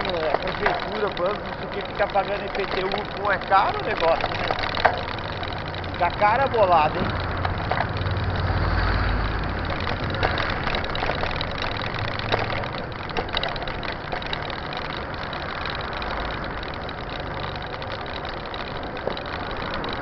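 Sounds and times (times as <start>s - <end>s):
bike road rumble: 0.0s - 20.0s
rattling clicks: 0.0s - 20.0s.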